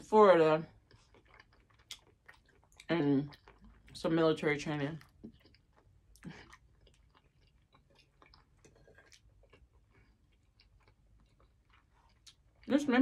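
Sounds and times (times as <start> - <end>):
chewing food: 0.6 - 13.0.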